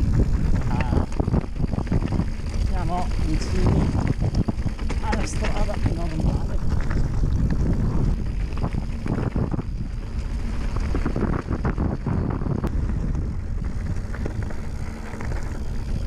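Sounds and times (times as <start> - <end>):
bike rattling: 0.0 - 16.0
tyres crunching on gravel: 0.0 - 16.0
wind buffeting microphone: 0.0 - 16.0.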